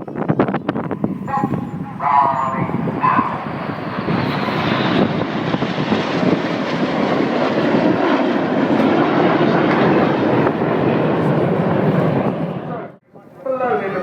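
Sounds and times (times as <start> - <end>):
jet aircraft roar: 0.0 - 14.0.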